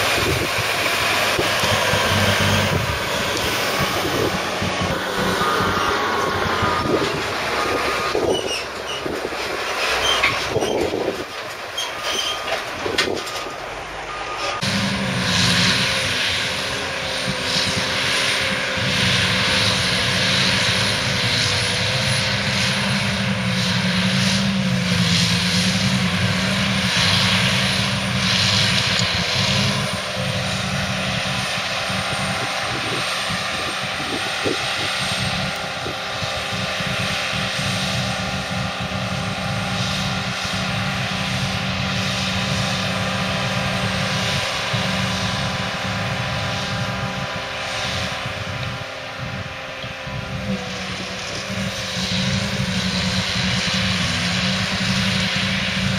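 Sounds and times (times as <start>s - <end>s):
diesel machinery engine drone: 0.0s - 55.9s.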